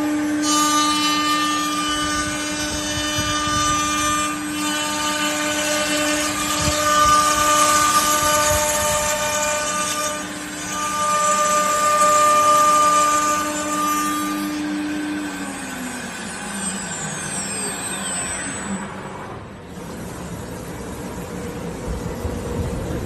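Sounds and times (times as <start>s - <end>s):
wood router spindle whine: 0.0s - 23.0s.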